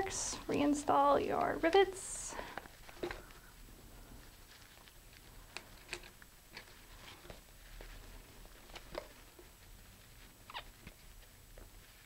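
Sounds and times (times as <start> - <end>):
faint clicks and scuffs on tube: 1.2 - 12.0.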